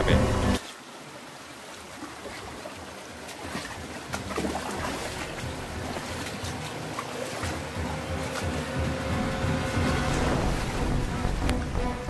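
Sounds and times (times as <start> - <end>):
stream water running over rocks: 0.0 - 12.0
footsteps wading in water: 1.5 - 11.7.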